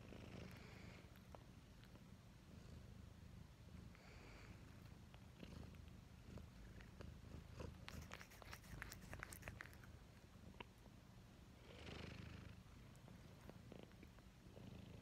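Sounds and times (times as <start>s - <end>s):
cat purring: 0.0s - 10.8s, 11.6s - 15.0s.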